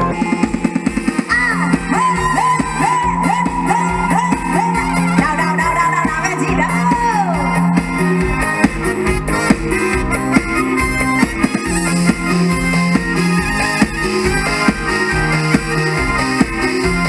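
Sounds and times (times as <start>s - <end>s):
drums and bass beat: 0.0s - 17.0s.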